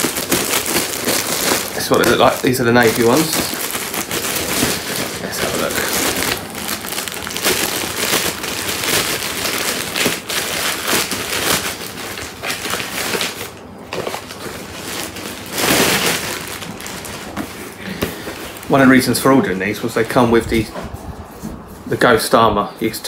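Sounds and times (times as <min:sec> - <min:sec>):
plastic bag crinkling: 0:00.0 - 0:20.8.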